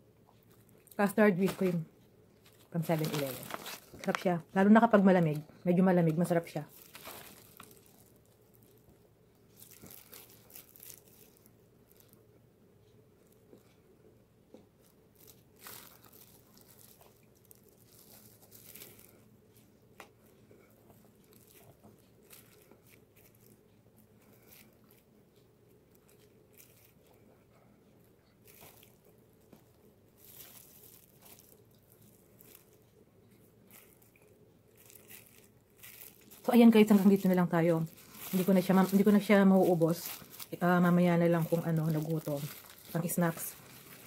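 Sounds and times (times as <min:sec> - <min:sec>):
person chewing soft bun: 0:00.0 - 0:01.0, 0:06.7 - 0:44.0
low room hum: 0:00.0 - 0:44.0.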